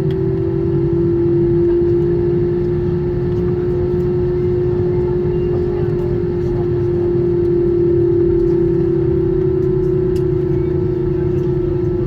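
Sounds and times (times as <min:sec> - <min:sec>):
jet engines idling in cabin: 0:00.0 - 0:12.0.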